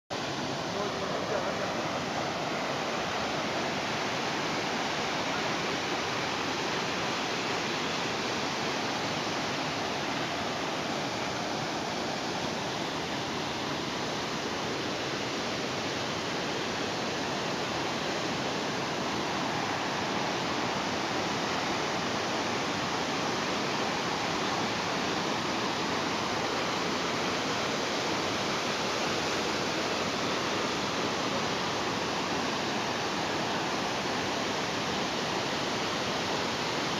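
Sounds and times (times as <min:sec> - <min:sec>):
waterfall rushing: 0:00.2 - 0:36.9.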